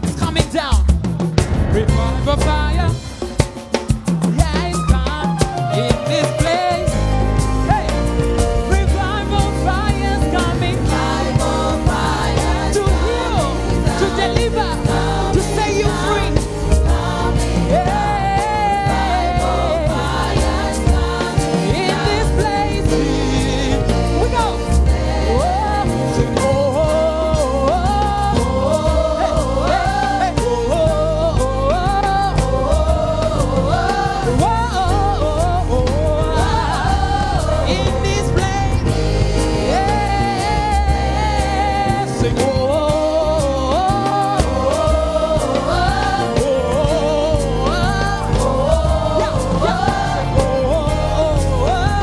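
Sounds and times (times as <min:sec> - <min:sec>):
drums: 0:00.0 - 0:52.0
gospel choir singing: 0:01.2 - 0:52.0
steady bass line: 0:01.4 - 0:03.4, 0:06.8 - 0:52.0.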